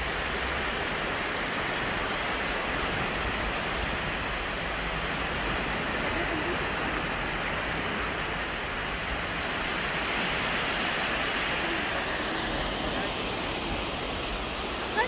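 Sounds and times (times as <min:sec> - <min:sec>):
small waves breaking on beach: 0:00.0 - 0:15.0.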